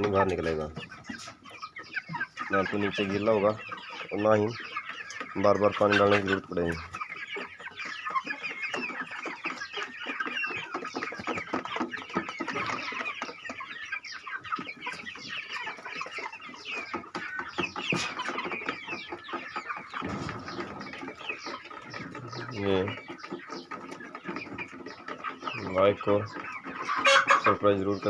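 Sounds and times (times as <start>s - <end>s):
chickens clucking and cheeping: 0.0s - 28.0s.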